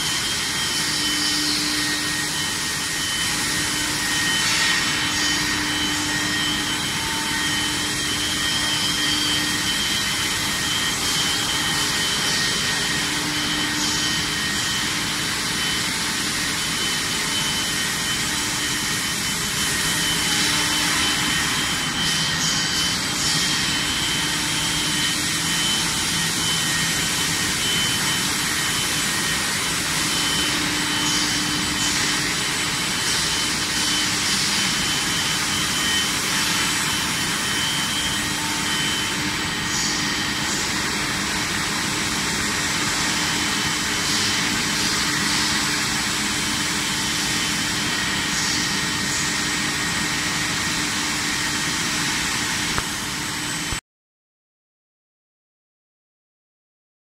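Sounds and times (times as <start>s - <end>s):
high-pitched whines: 0.0s - 53.8s.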